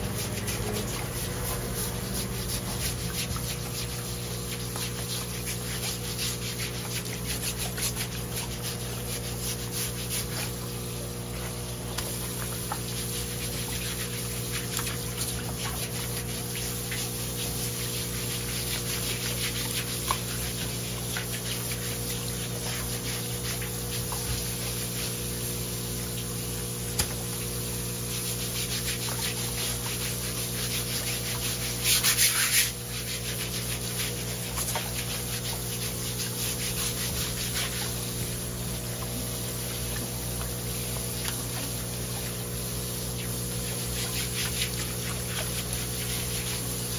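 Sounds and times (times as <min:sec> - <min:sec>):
brush scrubbing fish skin: 0:00.0 - 0:46.9
running tap water: 0:00.0 - 0:46.9
steady low hum: 0:00.0 - 0:46.9.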